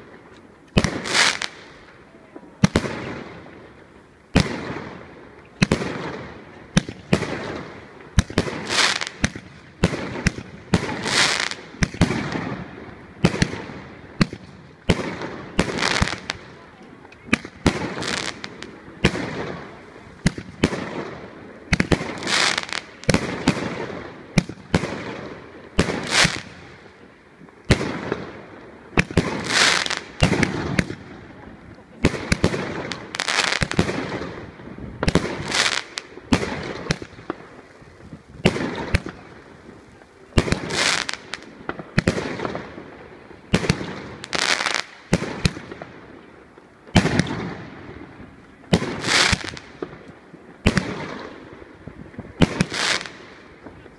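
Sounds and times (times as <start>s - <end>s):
firework bangs: 0.7s - 1.8s, 4.3s - 16.6s, 17.2s - 26.8s, 27.6s - 39.6s, 40.2s - 46.2s, 46.9s - 53.9s.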